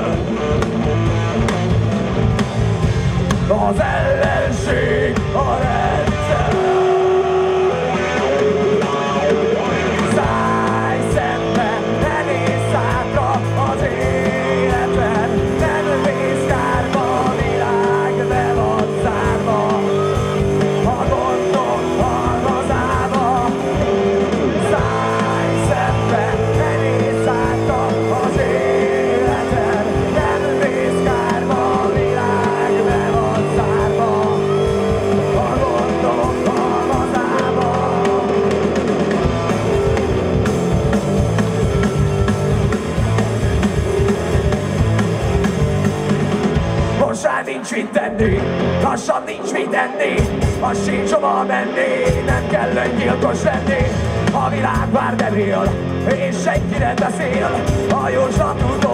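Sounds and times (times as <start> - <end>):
bass guitar: 0.0 - 47.4, 48.0 - 58.9
drum kit: 0.0 - 47.4, 48.1 - 58.9
electric guitars: 0.0 - 58.9
person singing: 3.4 - 39.1, 47.0 - 58.9.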